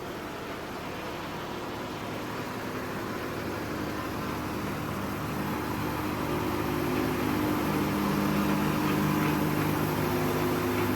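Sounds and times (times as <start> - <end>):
mill machinery engine hum: 0.0 - 10.9.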